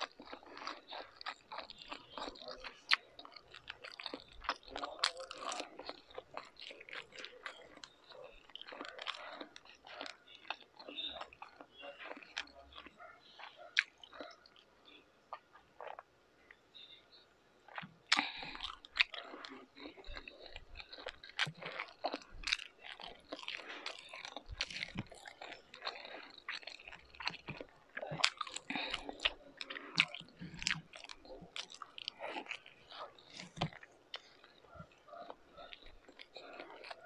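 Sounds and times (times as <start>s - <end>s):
close-up chewing crunches: 0.0s - 16.1s, 17.7s - 37.0s.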